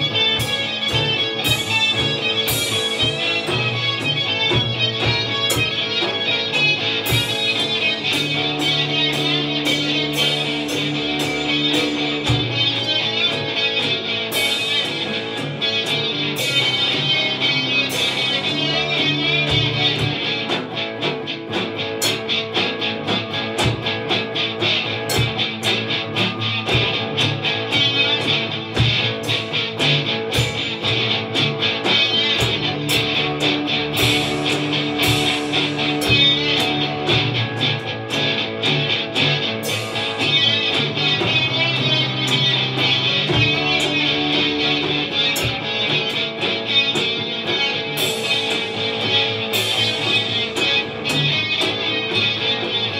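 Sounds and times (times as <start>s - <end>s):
drum beat with cymbals: 0.0s - 52.9s
electric guitars playing rock: 0.0s - 52.9s.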